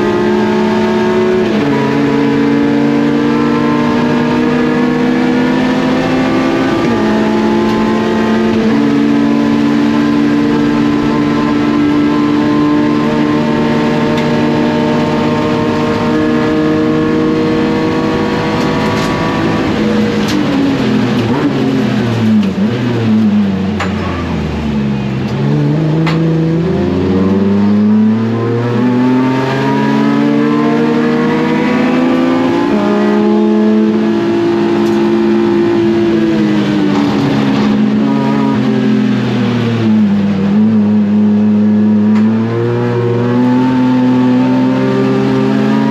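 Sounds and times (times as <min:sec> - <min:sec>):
race car engine at high revs: 0:00.0 - 0:45.9.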